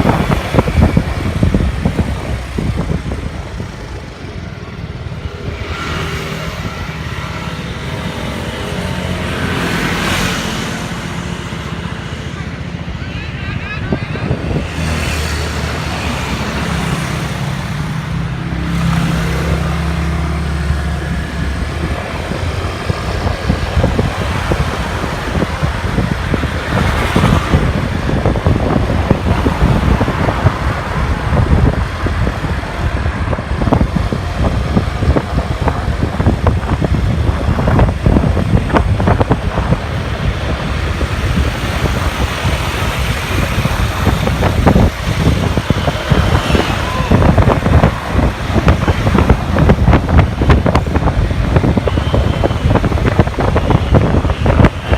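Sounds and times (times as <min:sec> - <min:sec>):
car road and engine noise: 0:00.0 - 0:54.9
rough crackly rumble: 0:10.8 - 0:54.9.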